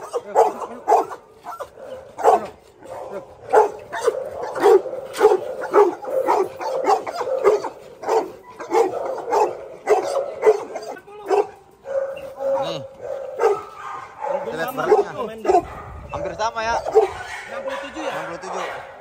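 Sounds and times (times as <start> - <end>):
dog barking: 0.0 - 19.0.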